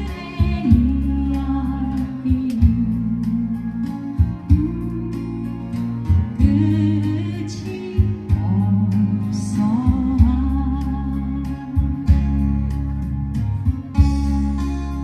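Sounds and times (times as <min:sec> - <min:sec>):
person singing: 0:00.0 - 0:12.5
guitar with steady beat: 0:00.0 - 0:15.0.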